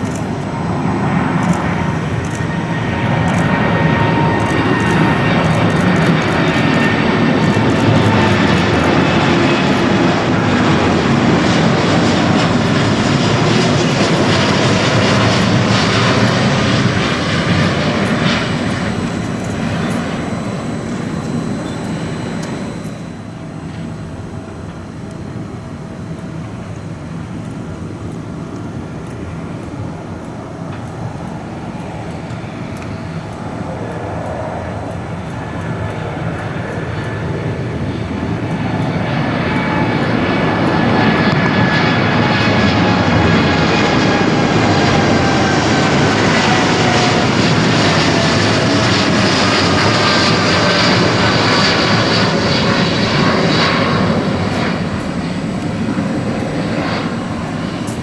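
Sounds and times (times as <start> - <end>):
high engine whine: 0.0 - 58.0
jet engines at take-off thrust: 0.0 - 58.0.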